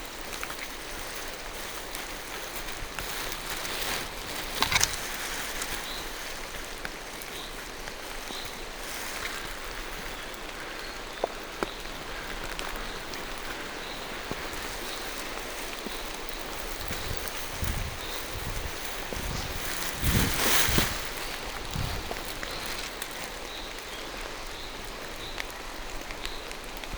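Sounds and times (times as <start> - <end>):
rain falling through trees: 0.0 - 26.9.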